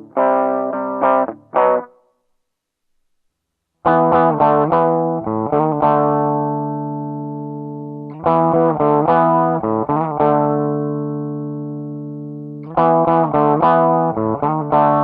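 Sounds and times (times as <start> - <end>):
electric guitar notes: 0.0 - 2.1, 3.9 - 15.0.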